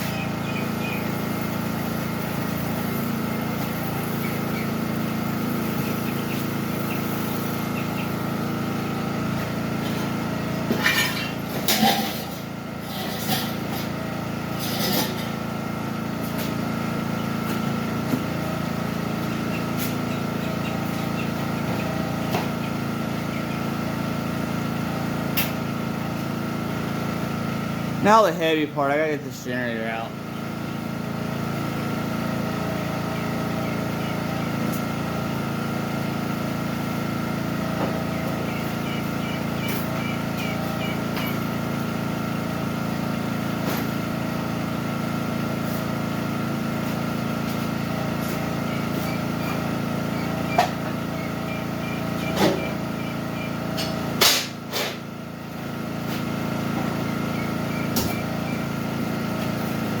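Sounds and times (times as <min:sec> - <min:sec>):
generator engine running: 0:00.0 - 1:00.0.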